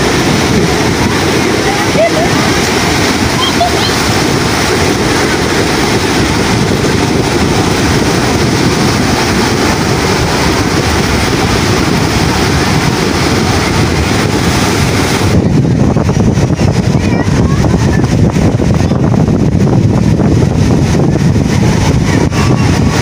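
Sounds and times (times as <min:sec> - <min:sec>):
small surf breaking: 0:00.0 - 0:18.9
wind buffeting microphone: 0:00.0 - 0:23.0.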